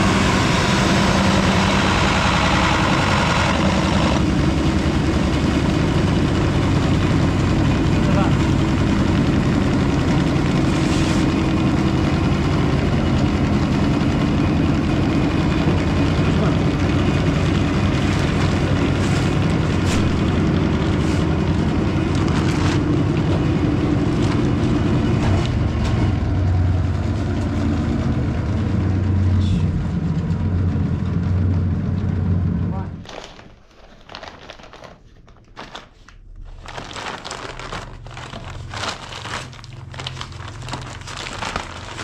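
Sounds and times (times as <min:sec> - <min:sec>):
vehicle engine running: 0:00.0 - 0:33.0, 0:36.5 - 0:42.0.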